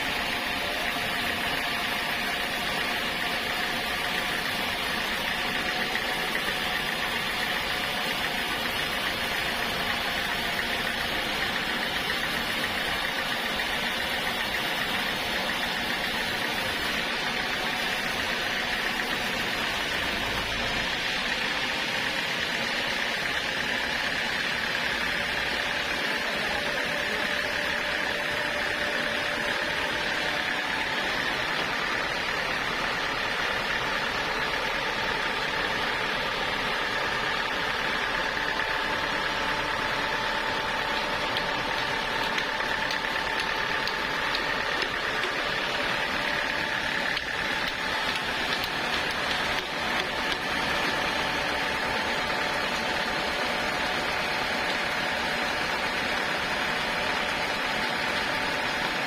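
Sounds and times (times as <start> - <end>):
sawmill machinery drone and whine: 0.0 - 59.0.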